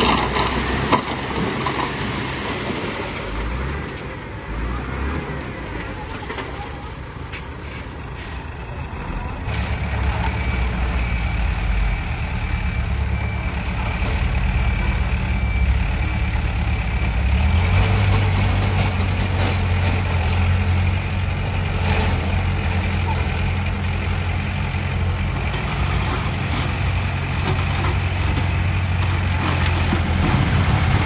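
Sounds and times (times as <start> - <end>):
heavy diesel engine under load: 0.0 - 31.0.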